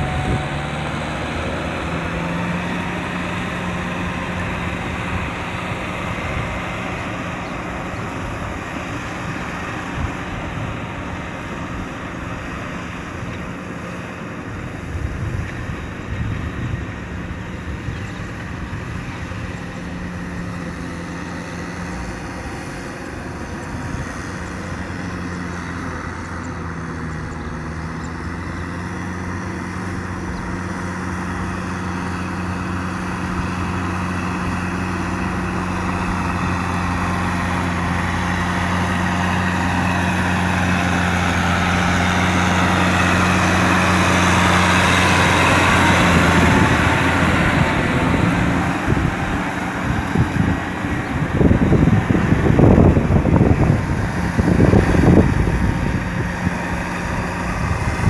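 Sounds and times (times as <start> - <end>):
rushing noise: 0.0 - 26.1, 29.2 - 58.0
tractor diesel engine running: 0.0 - 58.0.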